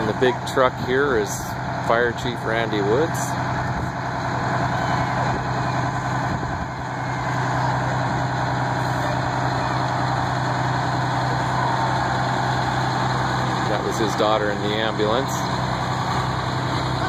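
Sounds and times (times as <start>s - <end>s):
truck engine running low: 0.0s - 17.0s.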